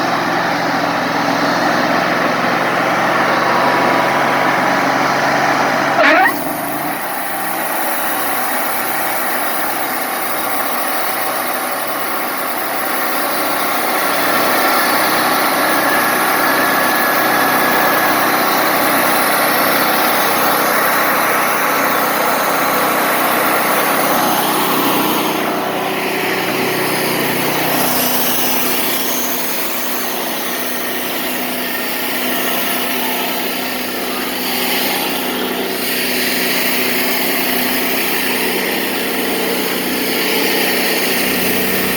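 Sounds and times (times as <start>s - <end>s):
band sawmill running: 0.0s - 41.9s.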